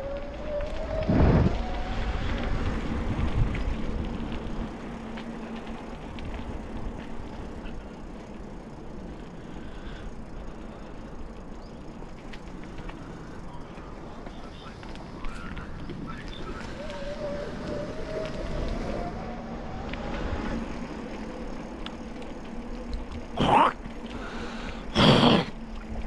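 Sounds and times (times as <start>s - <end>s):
bicycle tyres rumbling on path: 0.0s - 26.0s.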